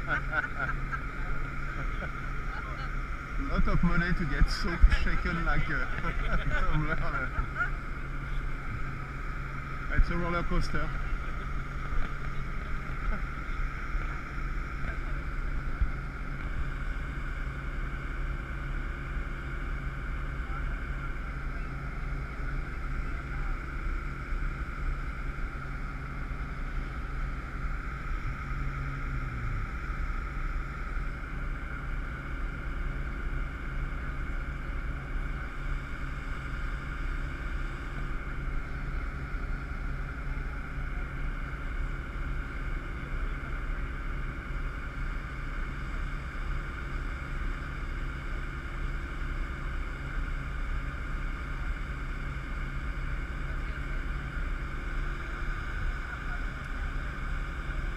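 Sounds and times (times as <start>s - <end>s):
constant rushing noise: 0.0s - 57.9s
engine humming: 0.0s - 57.9s.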